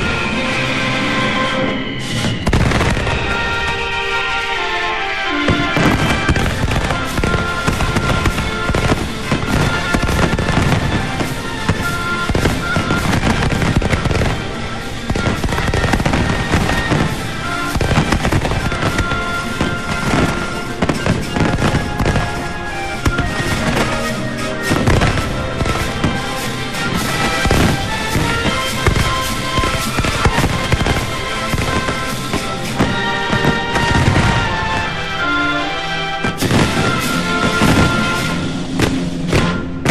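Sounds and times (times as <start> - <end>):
fireworks and firecrackers bangs: 0.0 - 39.9
music playing: 0.0 - 39.9.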